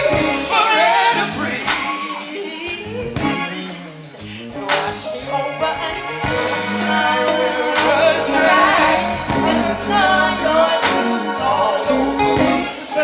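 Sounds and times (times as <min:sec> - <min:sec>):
band playing soul ballad: 0:00.0 - 0:13.0.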